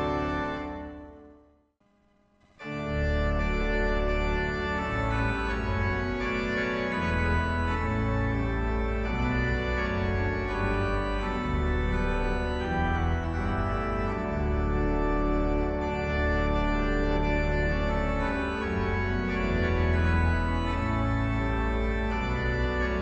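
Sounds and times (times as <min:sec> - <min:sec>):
electronic organ playing chords: 0:00.0 - 0:01.4, 0:02.6 - 0:23.0.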